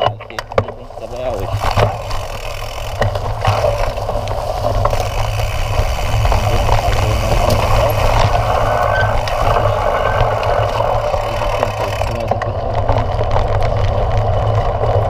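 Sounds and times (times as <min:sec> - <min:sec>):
bike rattling: 0:00.0 - 0:15.0
bike tyre rumble on dirt: 0:00.0 - 0:15.0
clicks and knocks over bumps: 0:00.0 - 0:15.0.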